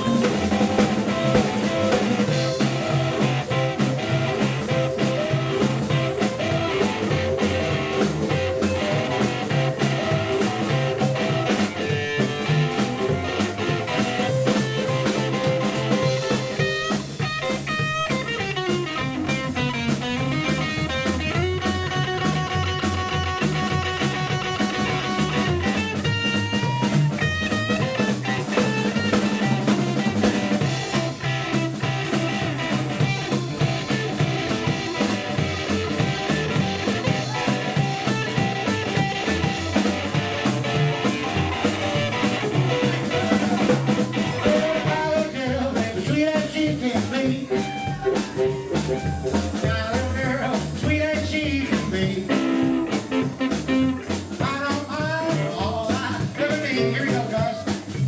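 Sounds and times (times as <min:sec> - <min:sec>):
lead guitar solo: 0:00.0 - 0:45.2, 0:47.2 - 0:49.7, 0:52.3 - 0:54.4
blues band playing: 0:00.0 - 0:58.0.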